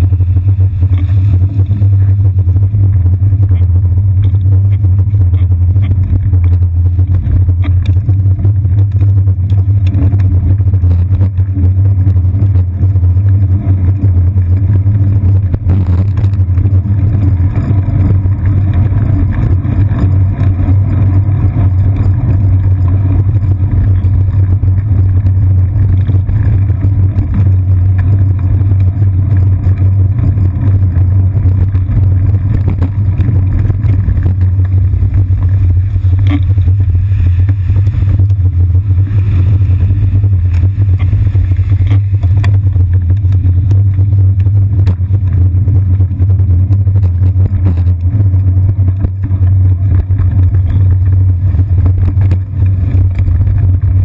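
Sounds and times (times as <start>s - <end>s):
low rumble of bicycle riding: 0.0s - 54.0s
vehicles passing close: 0.0s - 54.0s.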